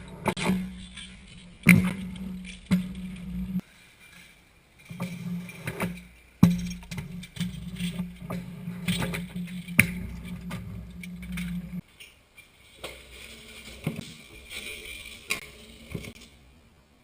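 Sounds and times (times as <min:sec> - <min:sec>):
scooter wheels rolling: 0:00.0 - 0:16.5.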